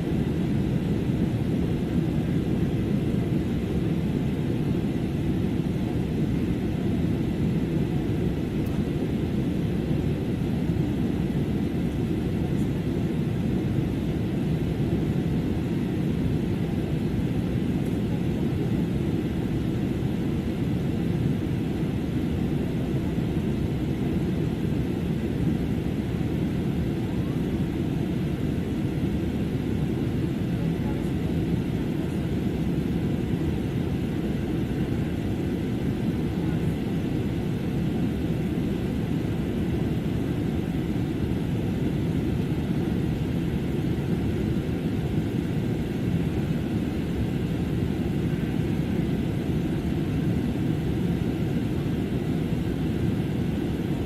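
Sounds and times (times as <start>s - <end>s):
airliner cabin engine rumble: 0.0s - 54.0s
faint steady whine: 0.0s - 54.0s.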